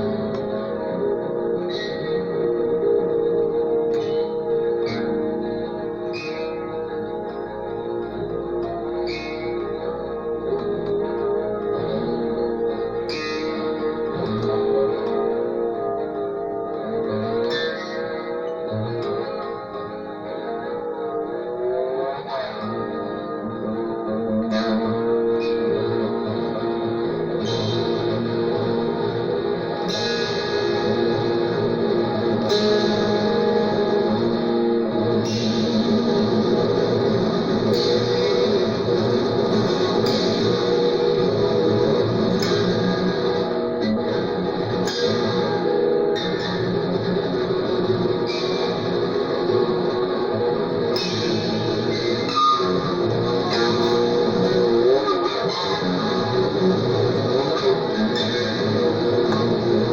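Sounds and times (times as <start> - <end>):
guitar music with echo: 0.0 - 59.9.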